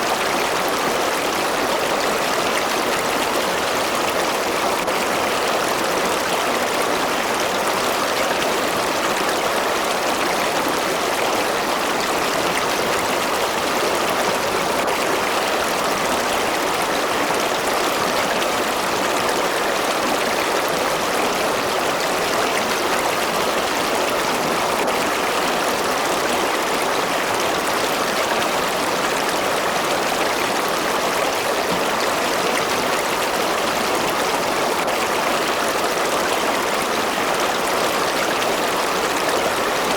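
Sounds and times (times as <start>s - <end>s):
river water running over rocks: 0.0s - 39.9s.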